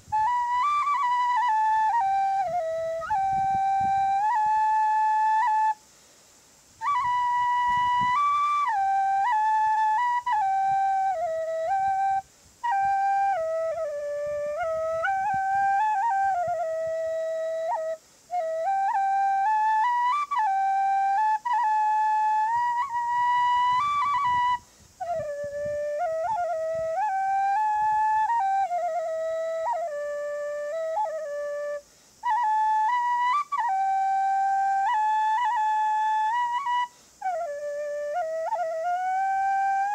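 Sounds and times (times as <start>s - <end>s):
flute solo melody: 0.0s - 5.9s, 6.7s - 39.9s.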